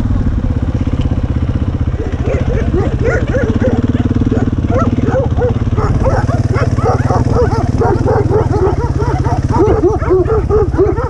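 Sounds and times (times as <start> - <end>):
dirt bike engine running: 0.0 - 11.0
dogs barking: 1.8 - 11.0.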